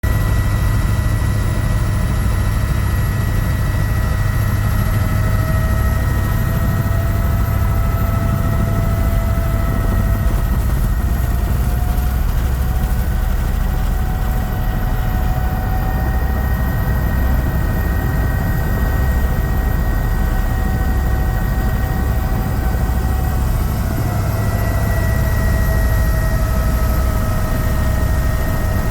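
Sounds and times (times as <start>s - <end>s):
helicopter engine and rotor drone: 0.0s - 28.9s.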